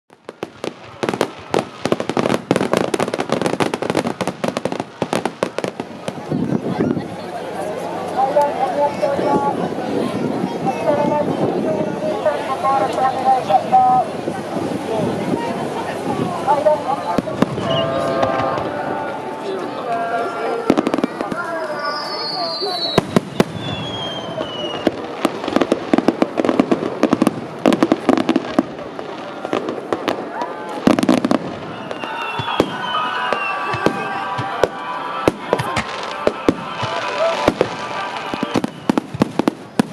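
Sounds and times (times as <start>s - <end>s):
fireworks bangs: 0.1s - 7.6s, 8.3s - 39.9s
fireworks crackling: 0.1s - 39.9s.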